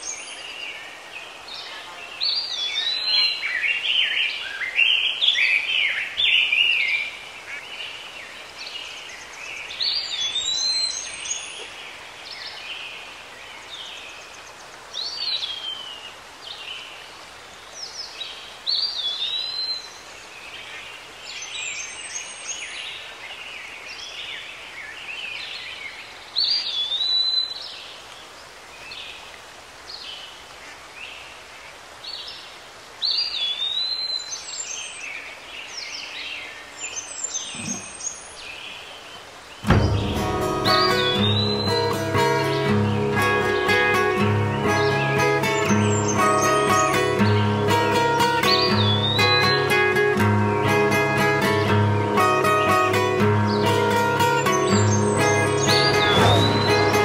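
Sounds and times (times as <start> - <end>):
background hiss: 0.0 - 57.0
songbird singing: 0.0 - 57.0.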